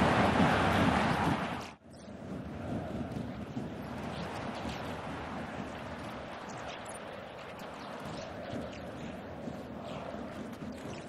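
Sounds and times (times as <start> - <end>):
stadium crowd noise: 0.0 - 10.5.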